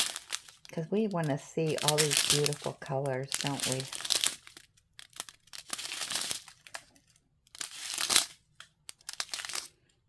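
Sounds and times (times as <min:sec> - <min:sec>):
plastic bags crinkling: 0:00.0 - 0:09.9.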